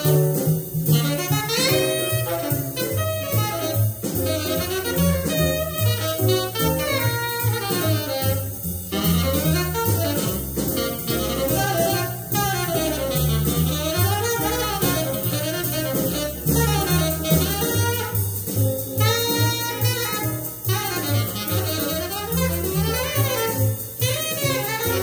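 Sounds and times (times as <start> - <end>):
ride cymbal: 0.0 - 25.0
tenor saxophone solo: 0.0 - 25.0
walking double bass: 0.0 - 25.0.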